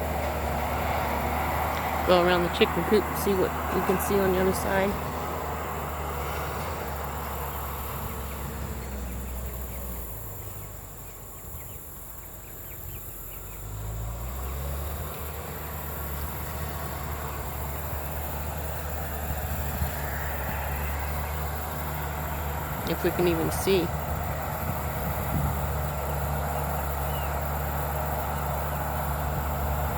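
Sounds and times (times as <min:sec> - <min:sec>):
bulldozer diesel engine rumbling: 0:00.0 - 0:29.9.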